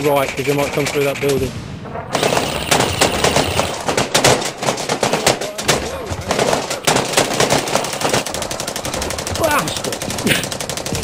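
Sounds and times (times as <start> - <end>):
airsoft guns firing bursts: 2.1 - 11.0.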